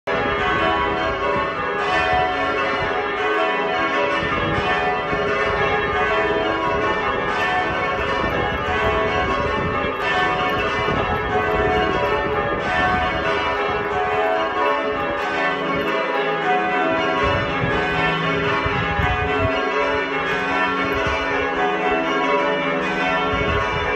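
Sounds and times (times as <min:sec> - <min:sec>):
heavy church bells ringing: 0:00.1 - 0:23.9.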